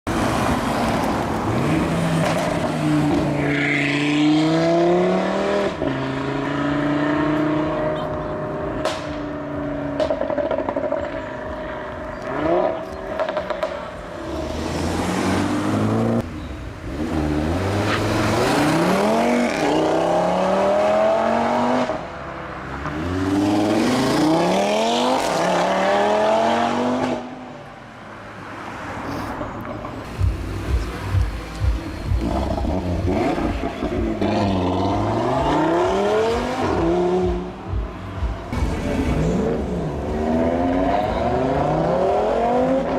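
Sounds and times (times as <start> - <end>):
car engine revving and accelerating: 0.1 - 27.5, 30.0 - 42.9.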